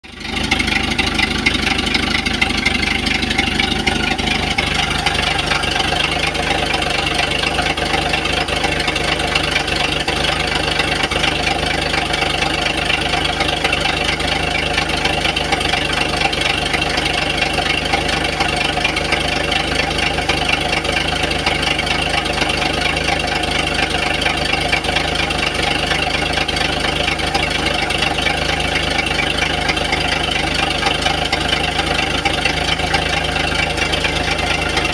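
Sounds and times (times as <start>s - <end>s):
engine idling with a knock: 0.0s - 34.9s.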